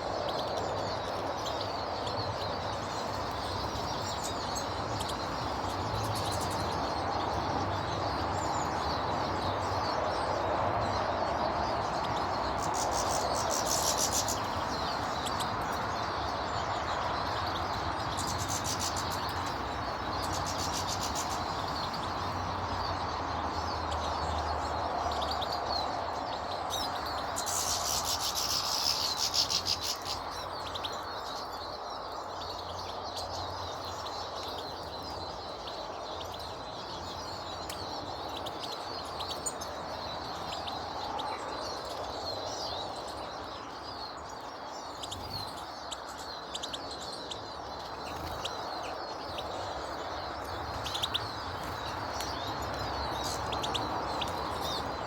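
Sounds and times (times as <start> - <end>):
small birds chirping: 0.0 - 55.0
steady background noise: 0.0 - 55.0.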